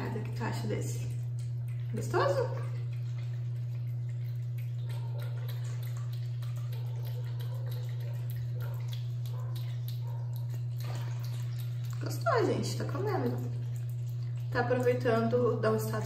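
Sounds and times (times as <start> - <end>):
cat eating wet food: 0.0 - 16.0
steady low hum: 0.0 - 16.0.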